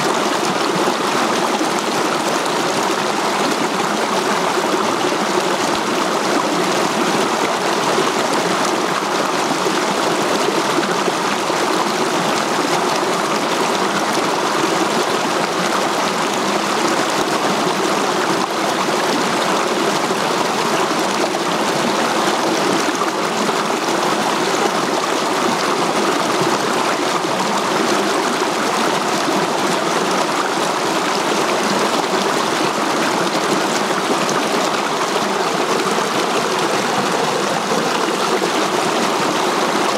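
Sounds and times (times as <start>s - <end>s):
mountain stream rushing over rocks: 0.0s - 39.9s.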